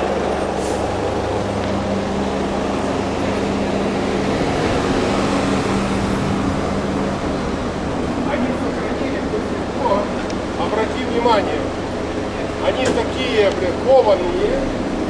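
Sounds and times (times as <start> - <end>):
street traffic: 0.0 - 15.0
vehicle engine humming: 0.0 - 15.0.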